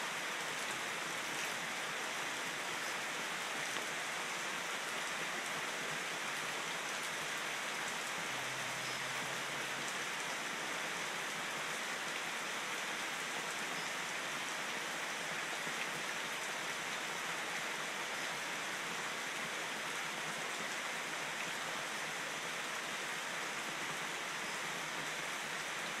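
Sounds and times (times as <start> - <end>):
steady rain on foliage and pavement: 0.0 - 26.0.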